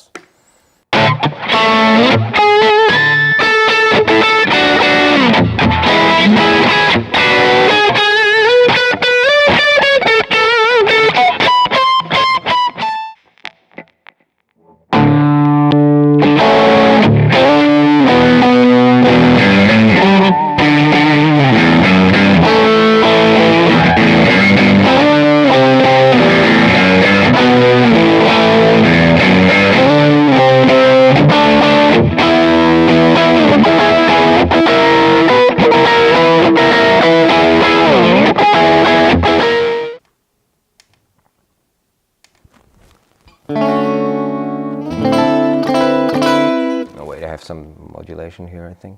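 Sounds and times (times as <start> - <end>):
distorted electric guitar riff: 0.9 - 40.0, 42.8 - 47.4.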